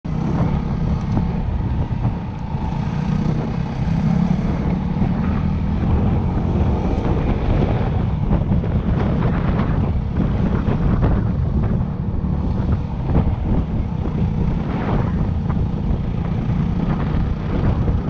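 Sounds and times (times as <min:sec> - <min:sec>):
motorcycle engine running: 0:00.1 - 0:18.0
wind buffeting microphone: 0:00.1 - 0:18.0.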